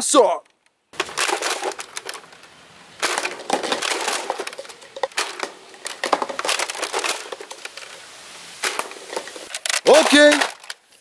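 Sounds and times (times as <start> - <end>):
cans clattering and tumbling: 1.0 - 11.0.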